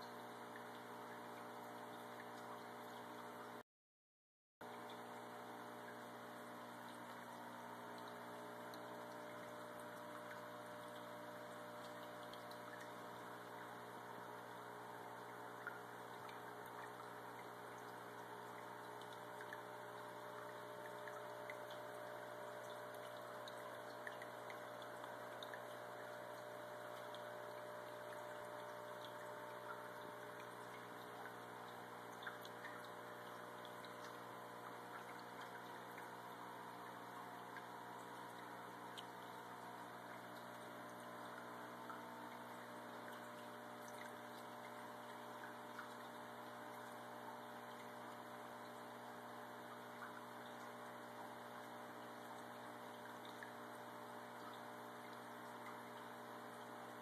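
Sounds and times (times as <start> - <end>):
aquarium pump hum: 0.0 - 3.6, 4.6 - 57.0
water drips: 0.0 - 3.6, 4.6 - 57.0
water trickling: 0.0 - 3.6, 4.6 - 57.0.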